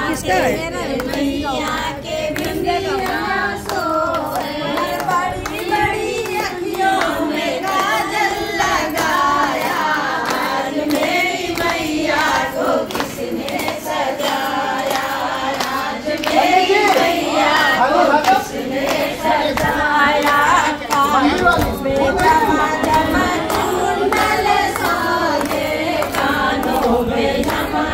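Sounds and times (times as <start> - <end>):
women singing in unison: 0.0 - 27.9
hand claps: 0.3 - 27.9.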